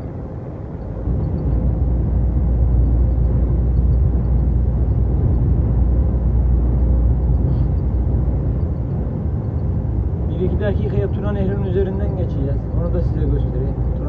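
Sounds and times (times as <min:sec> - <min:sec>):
truck engine and tyre rumble: 0:00.0 - 0:14.0.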